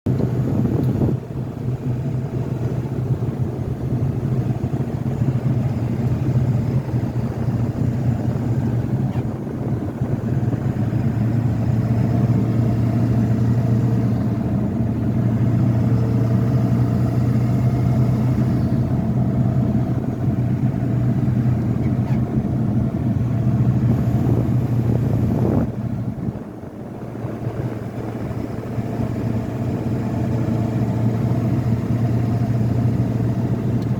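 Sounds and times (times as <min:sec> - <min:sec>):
diesel truck engine drone: 0:00.1 - 0:33.9
road noise: 0:00.1 - 0:33.9.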